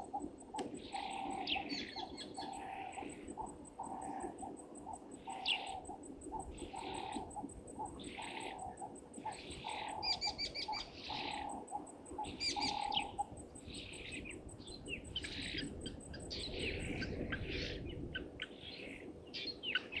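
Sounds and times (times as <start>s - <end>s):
faint fast high ticking: 0.0s - 17.9s
starlings chattering and whistling: 0.0s - 20.0s.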